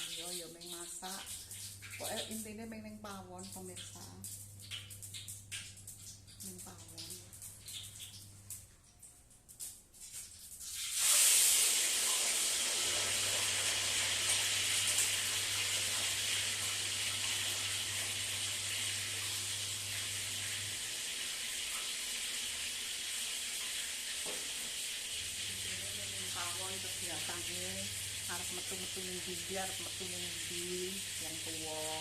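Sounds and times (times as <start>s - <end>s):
food frying in hot oil: 0.0s - 32.0s.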